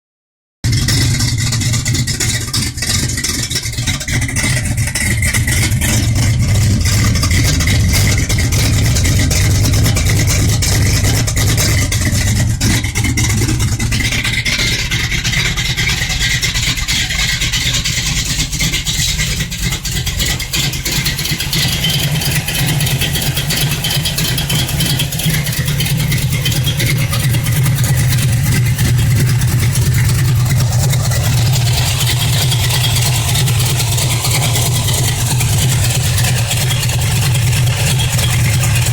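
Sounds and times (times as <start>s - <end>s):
car engine idling rough: 0.6s - 38.9s.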